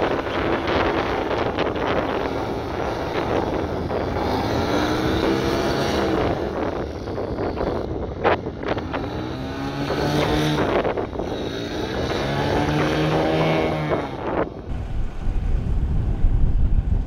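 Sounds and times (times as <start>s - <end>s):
aircraft engine and propeller: 0.0s - 17.0s.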